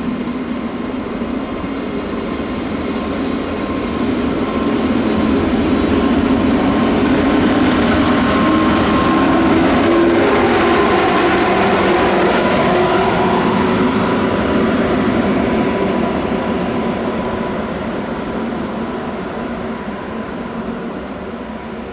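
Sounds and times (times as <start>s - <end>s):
locomotive humming: 0.0s - 21.9s
train wheels rumbling: 0.0s - 21.9s.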